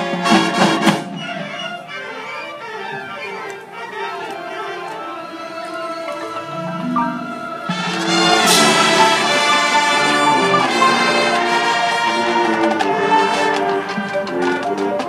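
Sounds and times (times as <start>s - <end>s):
brass section playing loudly: 0.0s - 15.0s
marching band playing: 0.0s - 15.0s.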